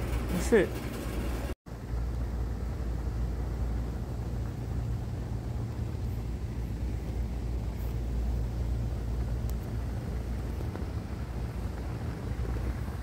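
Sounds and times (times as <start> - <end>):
ventilation equipment humming: 0.0 - 13.0.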